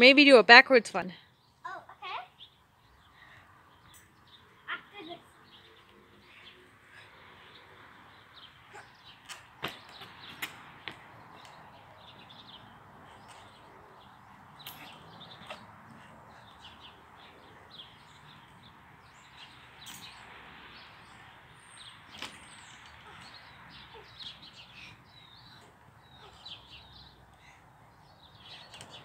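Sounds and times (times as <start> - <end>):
small birds chirping: 1.2 - 29.0.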